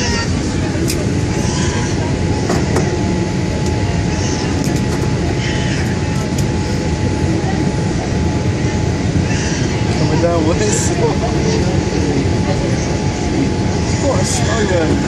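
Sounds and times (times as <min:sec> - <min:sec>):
engine and airflow noise: 0:00.0 - 0:15.0.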